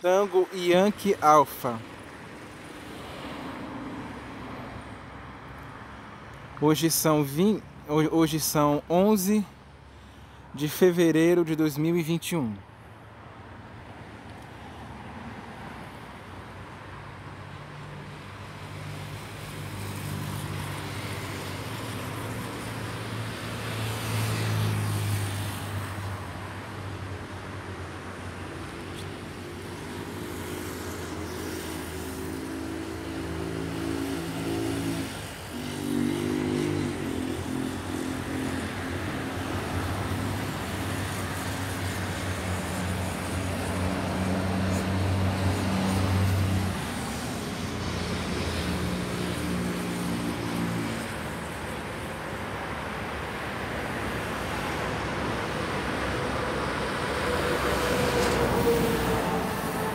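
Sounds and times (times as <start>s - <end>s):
road traffic: 0.0s - 59.9s.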